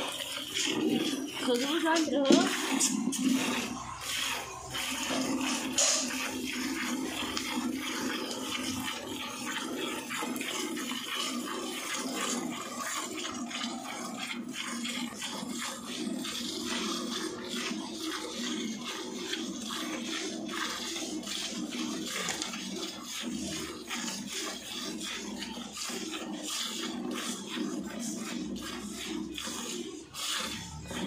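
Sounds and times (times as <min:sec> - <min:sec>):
milk squirting into steel bucket: 0:00.0 - 0:31.0.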